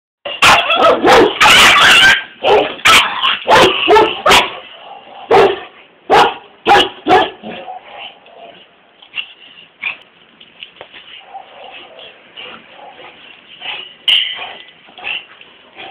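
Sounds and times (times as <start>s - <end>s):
dogs barking and yipping: 0.2s - 10.2s, 10.8s - 15.9s.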